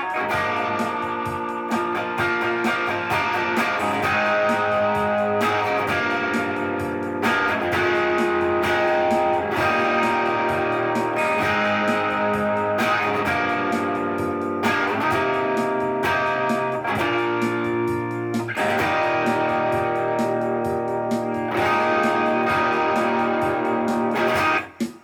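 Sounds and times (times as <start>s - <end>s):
guitar chords ringing: 0.0s - 25.0s.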